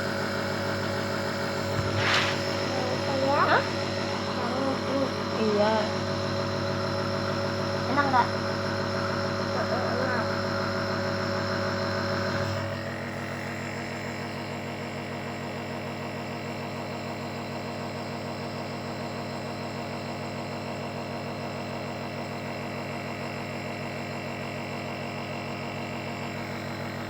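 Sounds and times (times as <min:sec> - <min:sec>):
nebulizer mechanical hum: 0:00.0 - 0:27.0.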